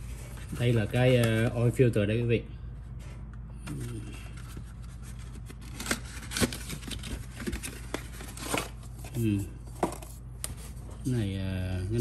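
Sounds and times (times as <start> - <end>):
cardboard rustling and scraping: 0.0 - 1.8, 3.0 - 11.2.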